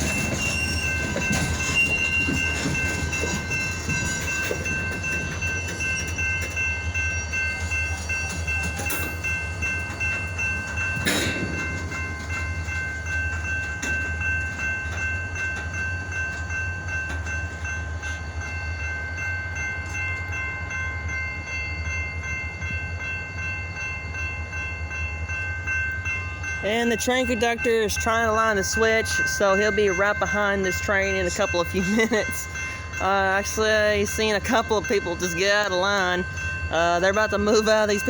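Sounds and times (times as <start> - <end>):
diesel locomotive rumble: 0.0 - 38.0.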